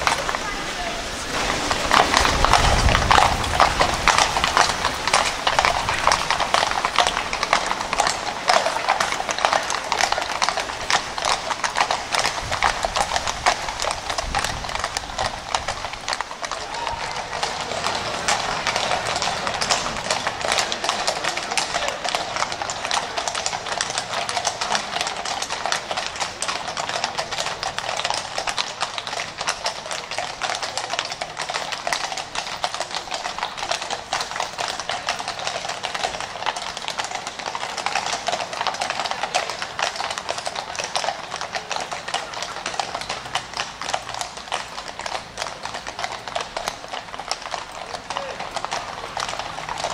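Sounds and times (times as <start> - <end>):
horse hooves clip-clopping: 0.0 - 49.9.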